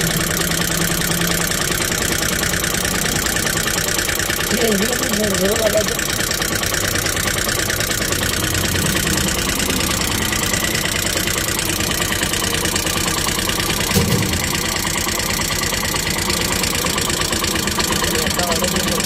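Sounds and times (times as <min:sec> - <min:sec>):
auto-rickshaw engine idling: 0:00.0 - 0:19.0.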